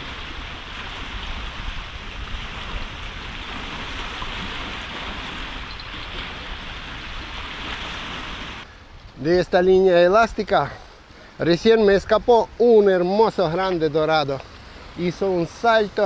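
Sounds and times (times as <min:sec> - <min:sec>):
river waves at shore: 0:00.0 - 0:16.0
wind: 0:00.0 - 0:16.0.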